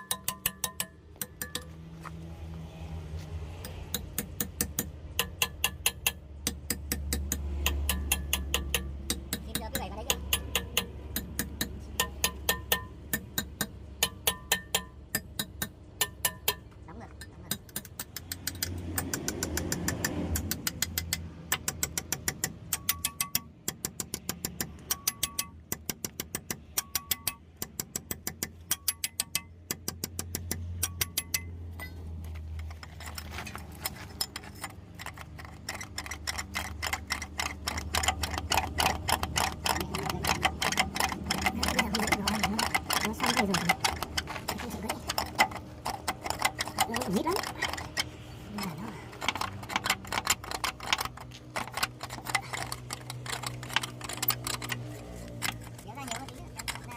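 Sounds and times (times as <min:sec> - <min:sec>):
sharp metallic taps: 0:00.0 - 0:02.2, 0:03.6 - 0:56.9.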